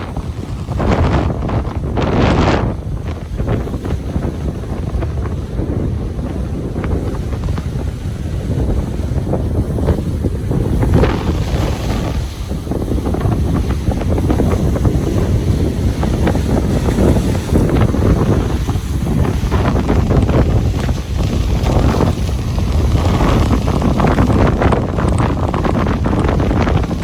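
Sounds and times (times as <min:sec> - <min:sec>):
ocean waves on beach: 0:00.0 - 0:27.0
wind buffeting microphone: 0:00.0 - 0:27.0.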